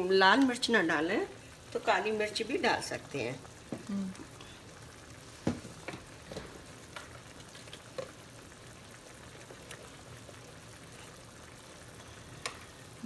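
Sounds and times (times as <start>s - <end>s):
gravy bubbling in a pan: 0.0s - 13.0s.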